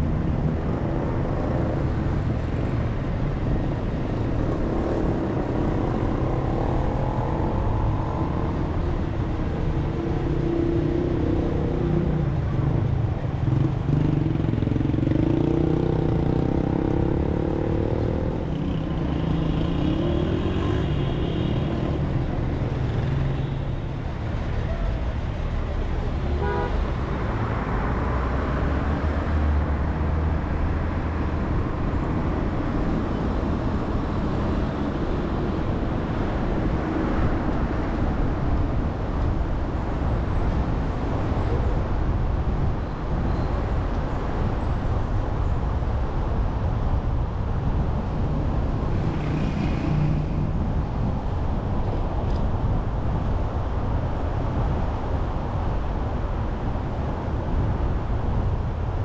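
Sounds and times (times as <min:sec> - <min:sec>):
engine and road rumble: 0:00.0 - 0:59.0
passing vehicles and motorcycles: 0:00.0 - 0:59.0.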